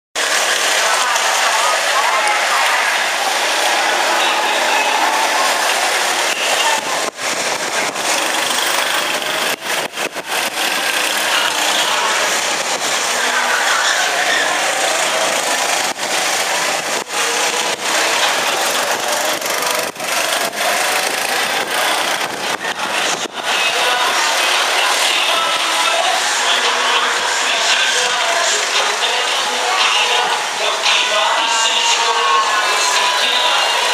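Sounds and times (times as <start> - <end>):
go-kart engines running: 0.2 - 33.9.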